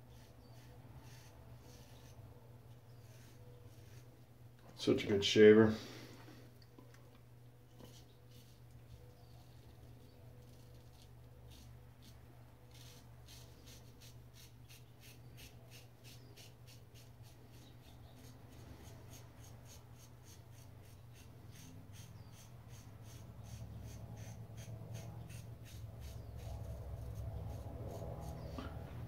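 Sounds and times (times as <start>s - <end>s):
razor scraping stubble: 0.1s - 2.2s, 2.9s - 4.1s, 7.7s - 28.6s.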